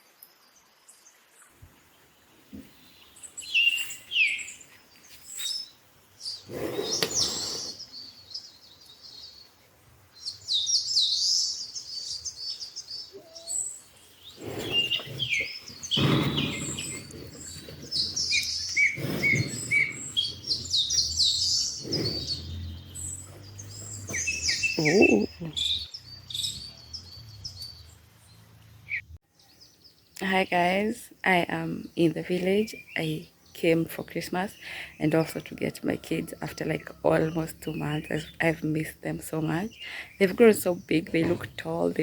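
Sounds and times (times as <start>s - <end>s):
small birds chirping: 0.2s - 42.0s.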